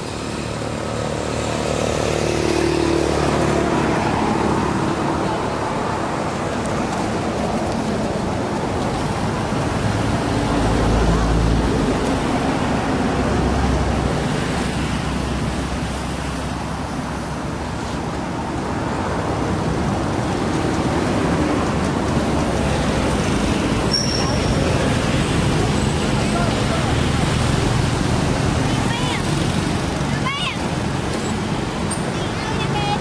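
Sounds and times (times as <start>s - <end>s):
road traffic noise: 0.0s - 33.0s
vehicles passing rumble: 0.0s - 33.0s.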